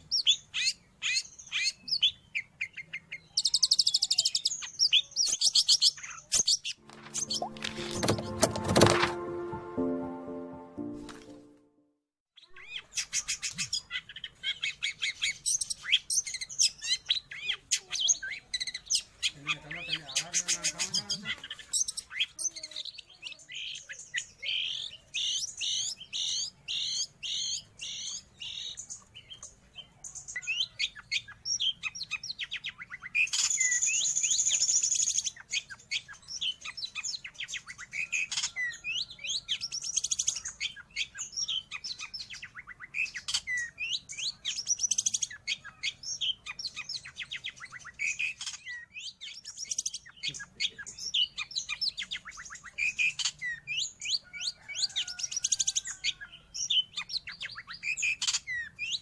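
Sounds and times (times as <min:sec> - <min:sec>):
bird singing chirps and trills: 0:00.0 - 0:08.8, 0:12.4 - 0:59.0.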